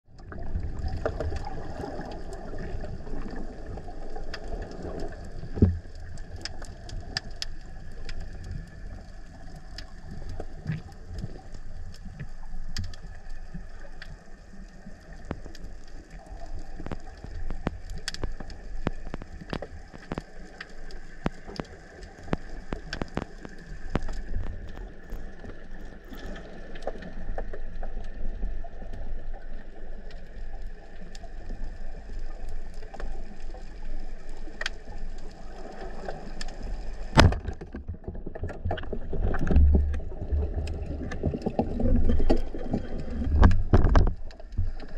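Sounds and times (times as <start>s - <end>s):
low underwater rumble: 0.1s - 44.9s
sharp clicks and crackles: 0.2s - 44.9s.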